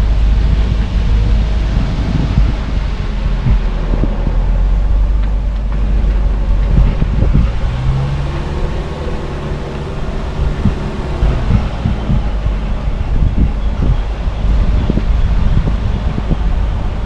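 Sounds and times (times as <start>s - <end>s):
car engine and tyre rumble: 0.0s - 17.0s
steady engine hum: 0.0s - 17.0s.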